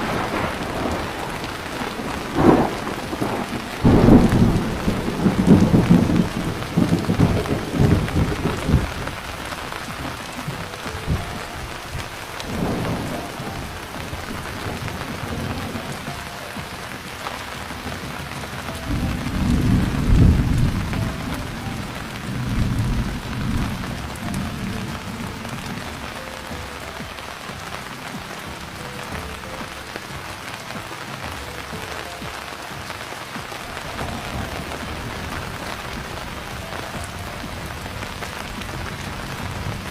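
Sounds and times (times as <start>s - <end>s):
steady rain hiss: 0.0s - 39.9s
thunder rumbling: 0.0s - 39.9s.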